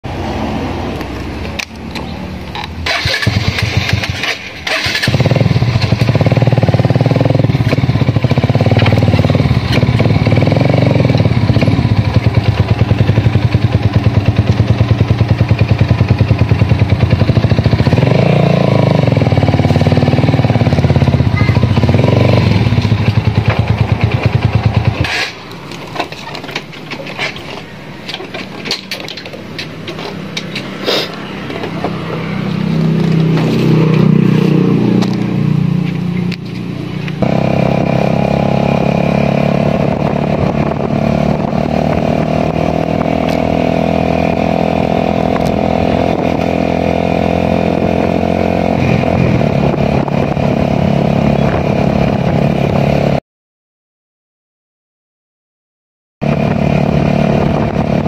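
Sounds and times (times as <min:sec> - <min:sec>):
motorcycle engine revving: 0:00.1 - 0:27.5, 0:28.1 - 0:53.2, 0:56.2 - 0:58.0.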